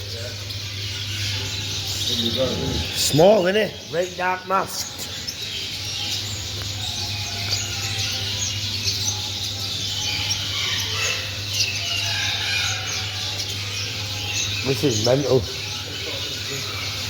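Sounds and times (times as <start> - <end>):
many small birds chirping and trilling: 0.0 - 17.0.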